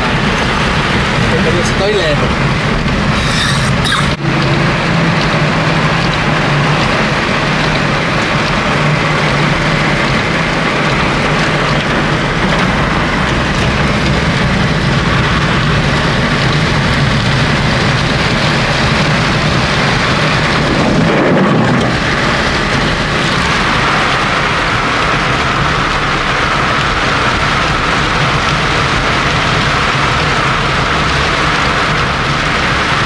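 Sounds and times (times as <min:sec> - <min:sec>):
car engine humming: 0:00.0 - 0:33.0
heavy rain on car roof: 0:00.0 - 0:33.0.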